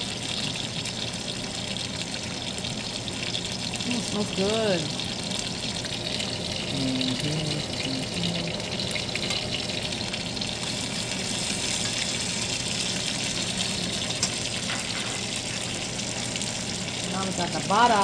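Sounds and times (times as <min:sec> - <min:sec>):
steak sizzling in a pan: 0:00.0 - 0:18.0.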